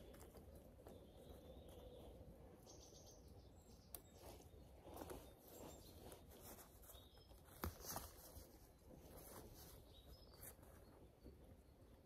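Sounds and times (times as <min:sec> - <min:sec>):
rustling of plants and leaf litter: 0:00.0 - 0:12.0.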